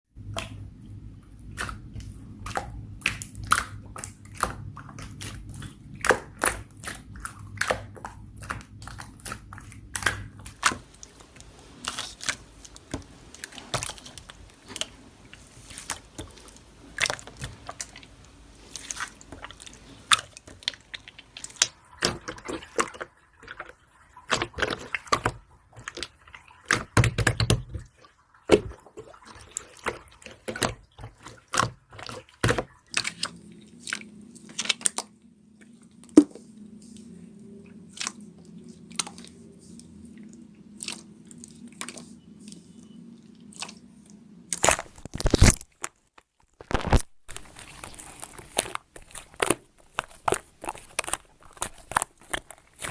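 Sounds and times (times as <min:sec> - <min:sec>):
low steady hum: 0:00.2 - 0:46.0
slime squelching by hand: 0:00.2 - 0:52.9.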